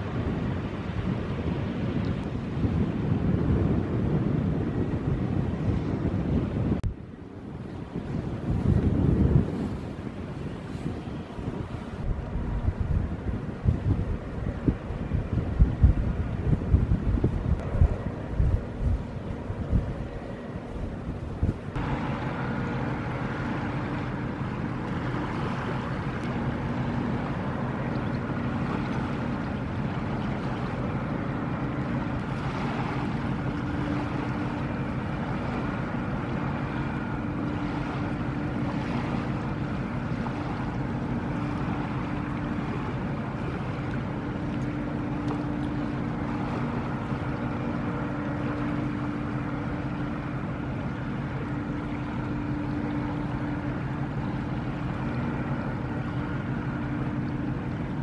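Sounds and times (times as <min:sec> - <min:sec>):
constant hum: 0:00.0 - 0:58.0
ship machinery low drone: 0:00.0 - 0:58.0.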